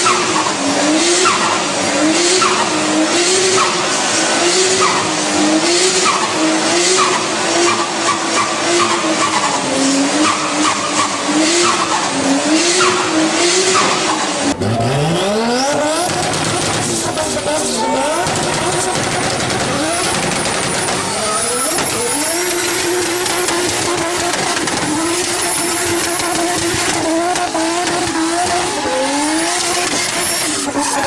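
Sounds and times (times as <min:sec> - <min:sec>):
car engine revving: 0:00.0 - 0:31.0
car tyres squealing: 0:00.0 - 0:31.0.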